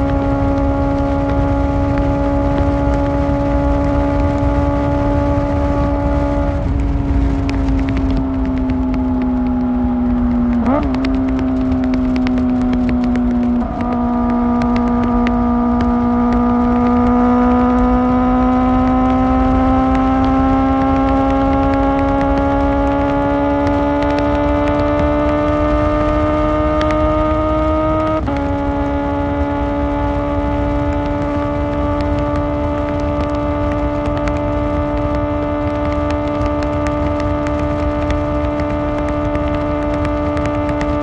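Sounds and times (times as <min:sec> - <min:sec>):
motorcycle engine at high revs: 0:00.0 - 0:41.0
wind rumble: 0:00.0 - 0:41.0.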